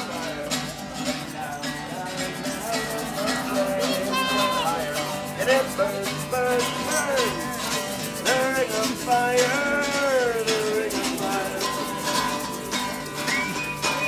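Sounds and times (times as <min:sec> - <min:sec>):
guitar strumming: 0:00.0 - 0:14.0
person singing: 0:00.0 - 0:14.0.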